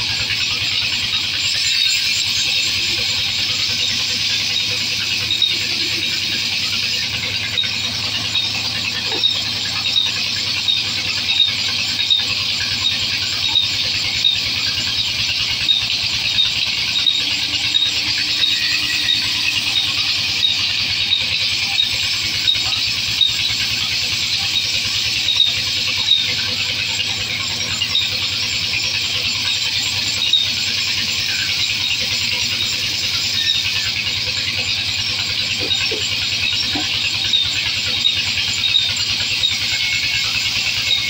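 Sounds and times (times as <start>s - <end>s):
band saw blade squealing: 0.0s - 41.0s.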